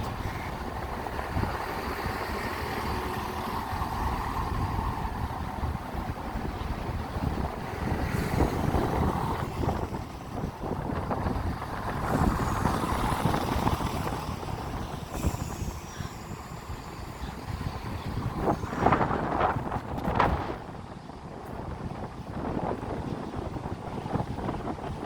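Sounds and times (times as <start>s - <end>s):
low train rumble: 0.0s - 25.0s
wind buffeting microphone: 0.0s - 25.0s.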